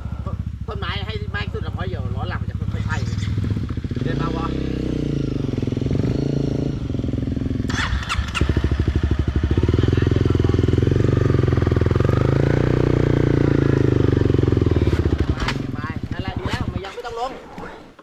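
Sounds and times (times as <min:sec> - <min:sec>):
motorcycle engine chugging: 0:00.0 - 0:17.3.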